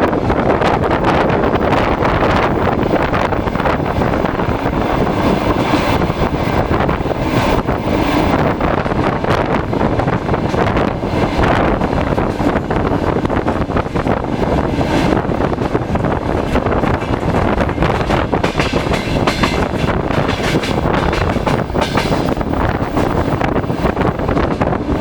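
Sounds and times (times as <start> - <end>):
diesel locomotive running: 0.0 - 25.0
wind noise on microphone: 0.0 - 25.0.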